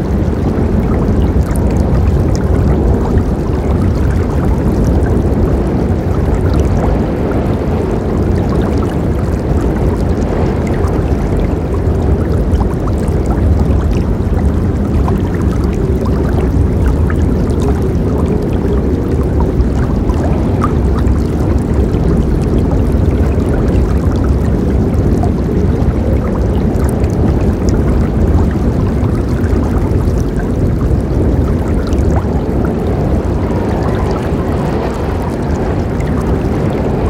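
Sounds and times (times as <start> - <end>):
small splashes and drips: 0.0 - 37.0.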